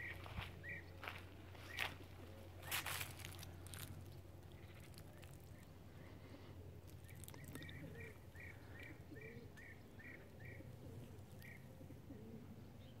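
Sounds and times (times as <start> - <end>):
bird calling: 0.0 - 13.0
faint low hum: 0.0 - 13.0.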